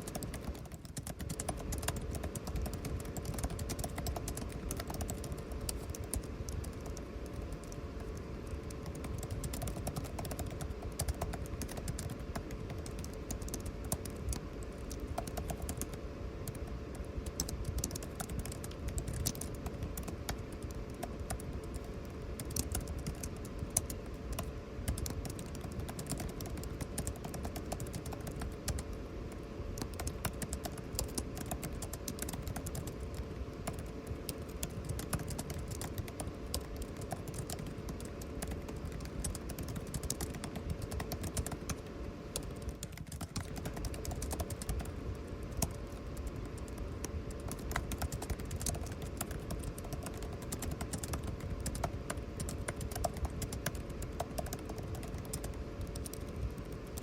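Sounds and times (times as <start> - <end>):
air conditioning hum: 0.0 - 57.0
typing on computer keyboard: 0.0 - 57.0.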